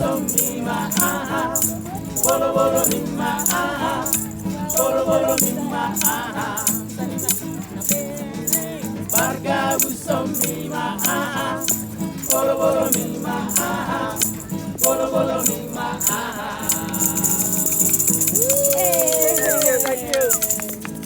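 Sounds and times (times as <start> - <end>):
person singing over accompaniment: 0.0 - 17.8
shaker rattle ticking: 0.0 - 21.0.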